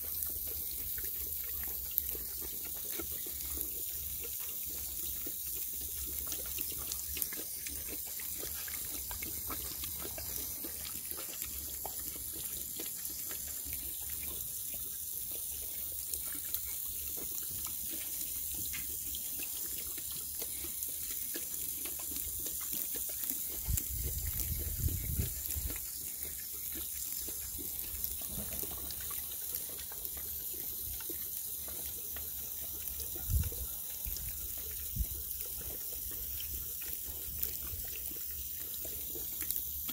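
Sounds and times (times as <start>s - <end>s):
dog lapping water: 0.0s - 39.9s
water splashing from hose: 0.0s - 39.9s.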